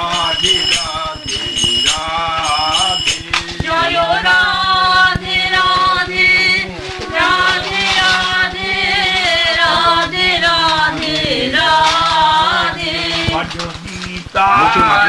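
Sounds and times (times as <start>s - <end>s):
steady low drone: 0.0s - 15.0s
voices singing devotional chant: 0.0s - 15.0s.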